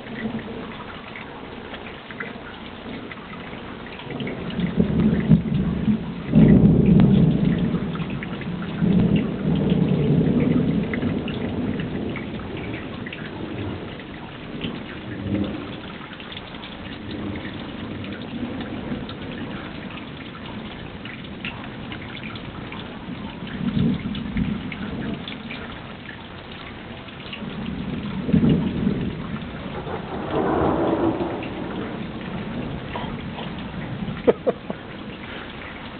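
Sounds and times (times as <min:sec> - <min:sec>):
steady rain: 0:00.0 - 0:35.9
thunder rumbling: 0:02.9 - 0:16.2, 0:16.8 - 0:25.8, 0:27.1 - 0:35.9.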